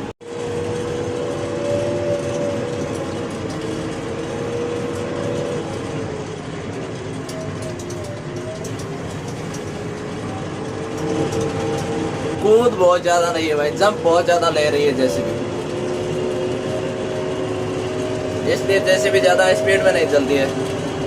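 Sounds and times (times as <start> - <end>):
diesel engine drone with whine: 0.0 - 21.0
light rattles: 1.7 - 21.0.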